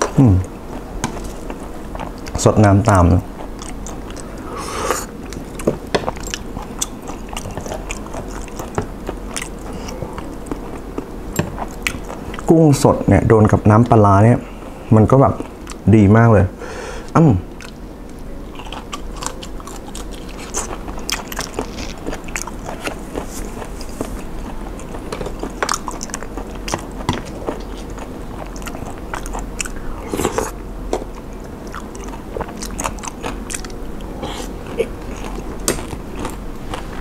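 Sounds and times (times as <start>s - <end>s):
person chewing and crunching: 0.0s - 12.6s, 14.6s - 15.8s, 17.5s - 37.0s.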